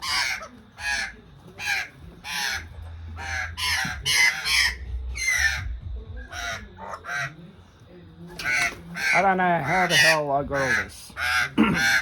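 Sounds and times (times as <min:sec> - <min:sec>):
bird screeching: 0:00.0 - 0:07.4, 0:08.4 - 0:12.0.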